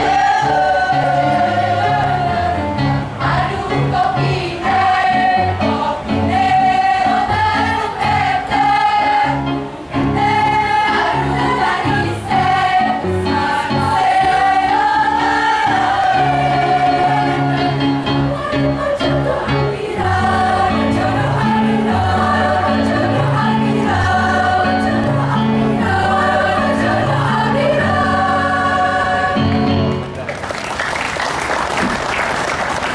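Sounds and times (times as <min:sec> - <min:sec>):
choir singing in harmony: 0:00.0 - 0:30.0.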